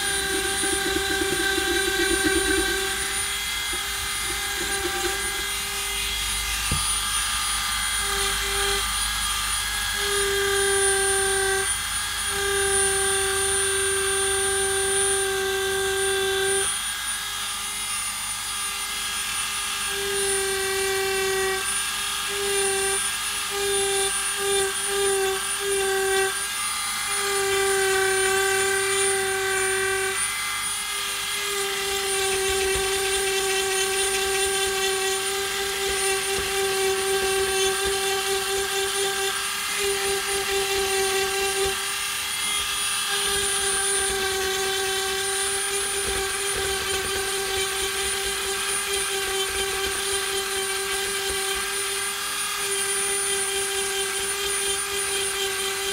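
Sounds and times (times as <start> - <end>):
rotary tool whining into wood: 0.0 - 55.9.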